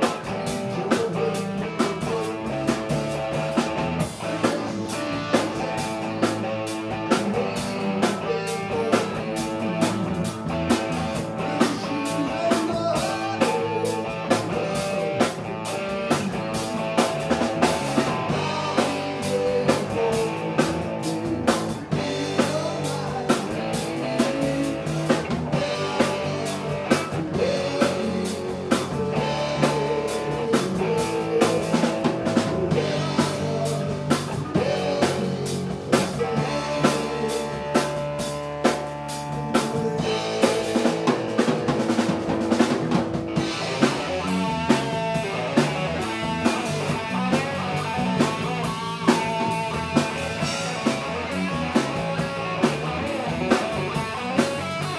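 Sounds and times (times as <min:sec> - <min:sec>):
drum kit beat: 0:00.0 - 0:54.9
electric bass: 0:00.0 - 0:54.9
electric guitar: 0:00.0 - 0:54.9.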